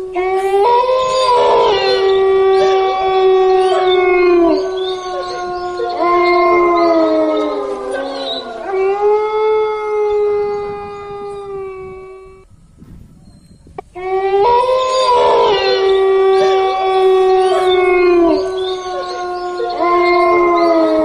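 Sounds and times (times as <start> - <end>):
dogs howling: 0.0 - 12.7, 14.0 - 21.0.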